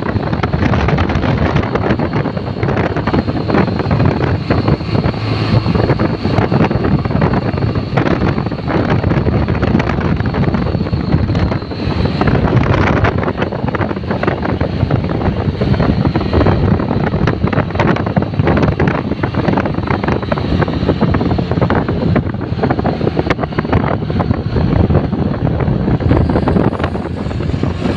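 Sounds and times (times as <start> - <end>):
road and engine noise: 0.0 - 27.9
wind buffeting microphone: 0.0 - 27.9.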